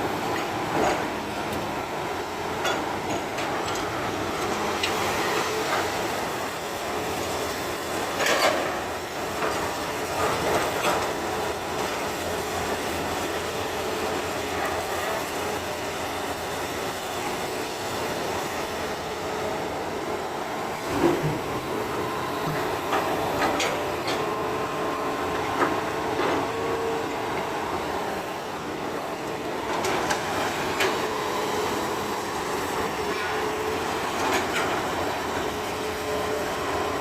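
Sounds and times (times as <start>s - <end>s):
excavator machine noise: 0.0s - 37.0s.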